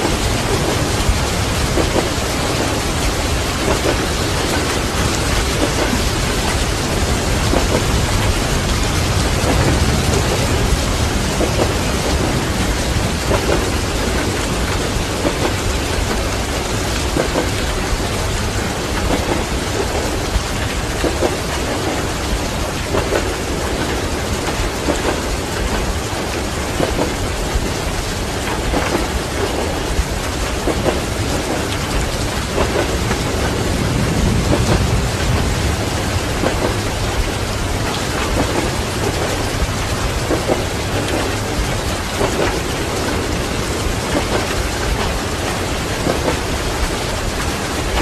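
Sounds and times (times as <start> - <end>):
heavy rain: 0.0 - 48.0
thunder rumbling: 0.0 - 48.0
train running on rails: 0.0 - 48.0
wheels knocking on rail joints: 0.0 - 48.0.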